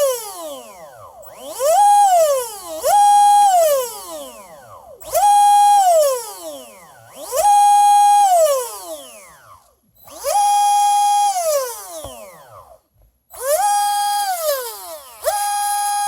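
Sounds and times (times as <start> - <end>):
electric motor whine: 0.0 - 12.8, 13.4 - 16.0.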